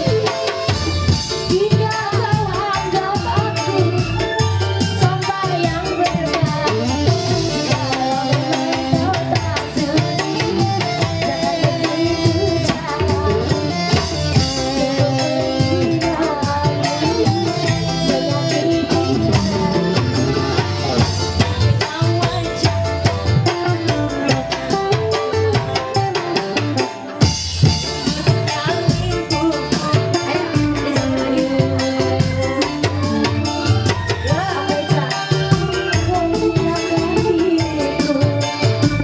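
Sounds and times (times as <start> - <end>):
woman singing into microphone: 0.0 - 27.2, 27.8 - 39.0
hand-drum beat: 0.0 - 39.0
keyboard: 0.0 - 39.0.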